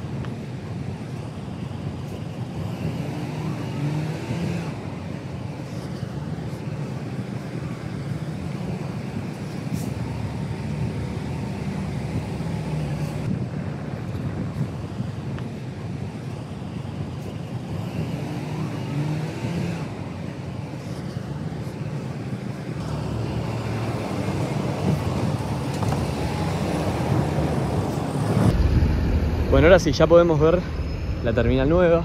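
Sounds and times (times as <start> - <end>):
road traffic: 0.0 - 32.0.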